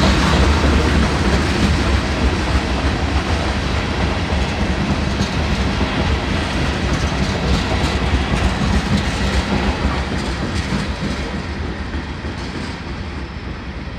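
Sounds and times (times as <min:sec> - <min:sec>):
train cars rolling on rails: 0:00.0 - 0:13.9.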